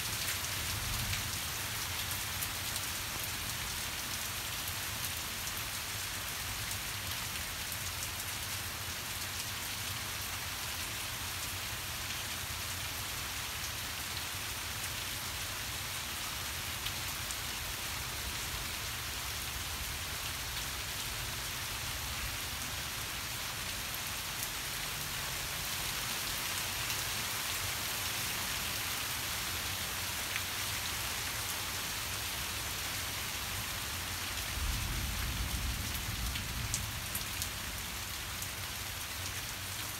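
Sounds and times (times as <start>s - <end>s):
heavy rain falling: 0.0s - 10.4s, 15.4s - 39.9s.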